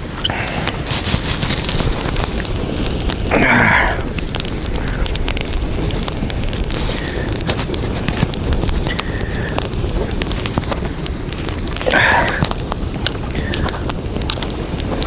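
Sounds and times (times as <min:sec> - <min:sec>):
crackles: 0:00.0 - 0:15.0
loud rustling burst: 0:00.0 - 0:15.0
wind buffeting microphone: 0:00.0 - 0:15.0.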